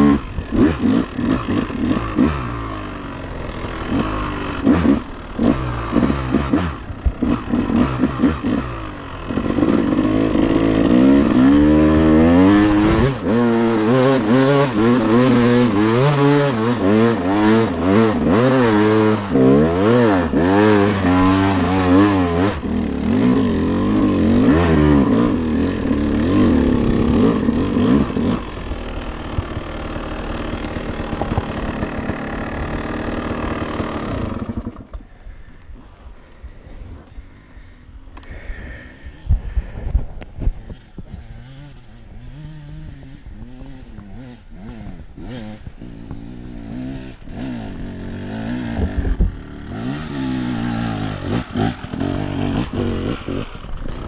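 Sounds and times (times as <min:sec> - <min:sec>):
dirt bike engine revving: 0:00.0 - 0:35.6, 0:37.4 - 0:54.0.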